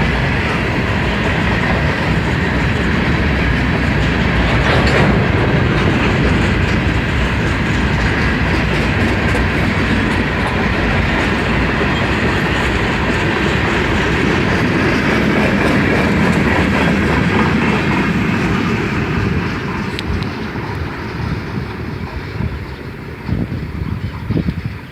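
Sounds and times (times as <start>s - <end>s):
train wheels rolling on rails: 0.0s - 24.9s.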